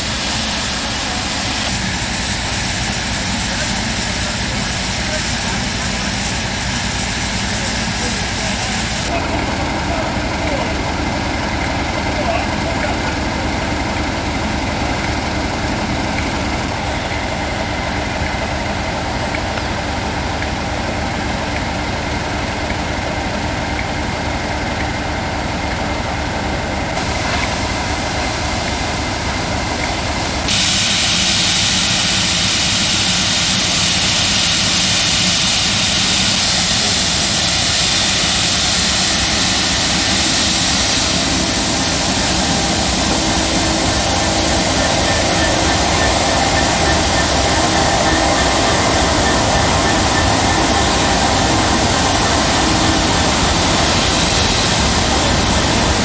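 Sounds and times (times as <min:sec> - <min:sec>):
strong hiss: 0:00.0 - 0:19.4, 0:27.0 - 0:56.0
heavy engine idling: 0:00.0 - 0:56.0.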